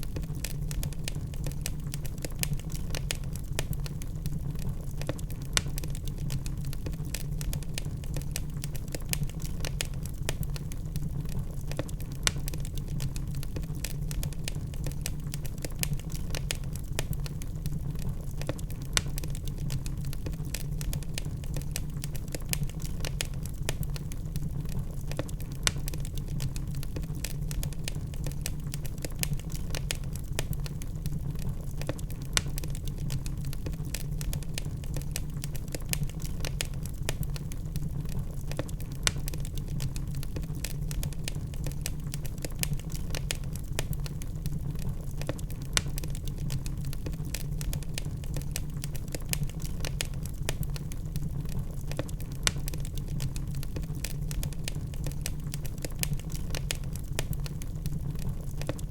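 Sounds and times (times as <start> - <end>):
fire crackling: 0.0 - 58.9
low rumble of flame: 0.0 - 58.9.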